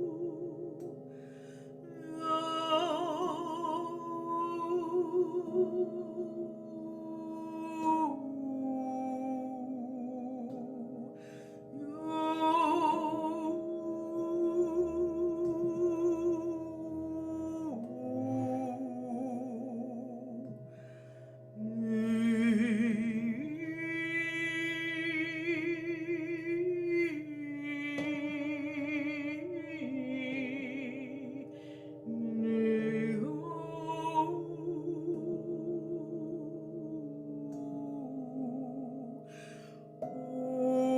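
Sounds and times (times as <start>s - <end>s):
woman singing wordless held notes: 0.0s - 1.1s, 1.9s - 20.9s, 21.6s - 40.9s.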